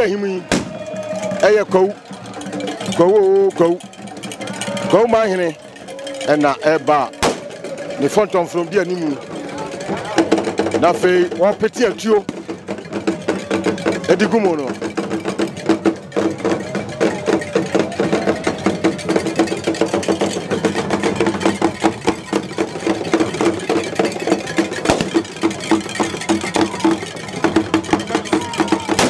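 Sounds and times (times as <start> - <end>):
drums beating dense rhythm: 0.0 - 29.0.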